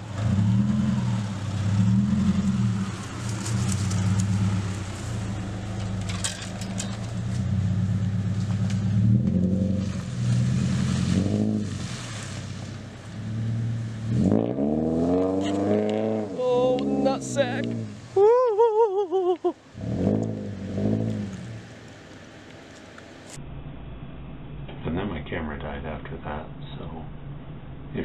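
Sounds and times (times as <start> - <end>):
ground crackling under tyres: 0.0 - 23.4
car engine pulling at low speed: 0.0 - 28.0.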